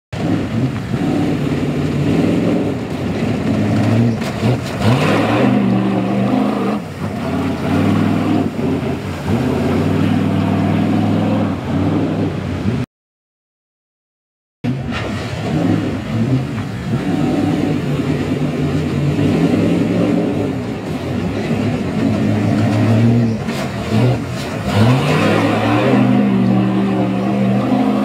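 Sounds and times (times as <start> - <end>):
engine revving: 0.2 - 12.8, 14.6 - 28.0
vehicle splashing through water: 0.2 - 12.9, 14.7 - 28.0.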